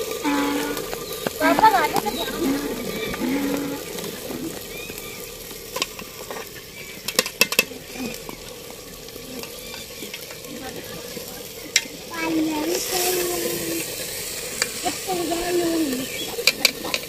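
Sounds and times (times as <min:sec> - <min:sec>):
ladle stirring in pot: 0:00.0 - 0:15.0
pot sizzling over fire: 0:00.0 - 0:17.0.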